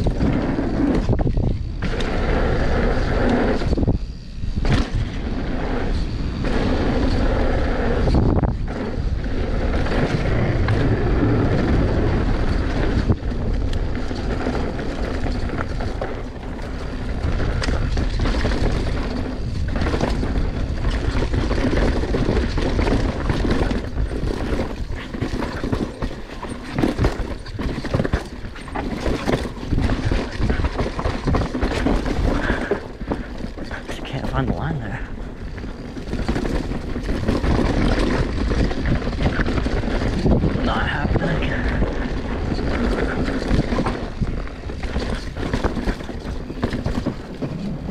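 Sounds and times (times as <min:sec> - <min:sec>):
bike rattling and knocking: 0:00.0 - 0:47.9
wind on microphone: 0:00.0 - 0:47.9.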